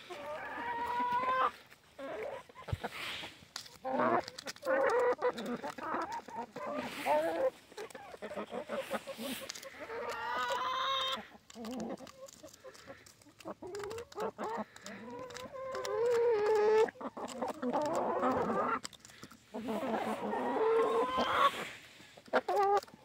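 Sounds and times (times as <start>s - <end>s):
hens clucking and calling: 0.0s - 23.0s.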